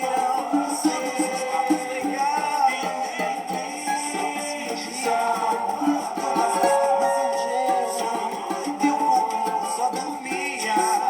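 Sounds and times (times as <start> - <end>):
accompanying music: 0.0 - 11.0
cavaquinho quick plucked notes: 0.0 - 11.0.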